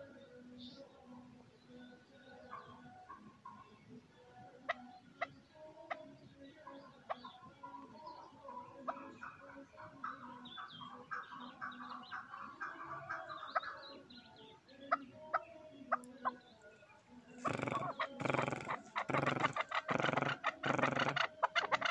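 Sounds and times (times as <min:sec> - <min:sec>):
partridge calling softly: 0:02.3 - 0:21.9.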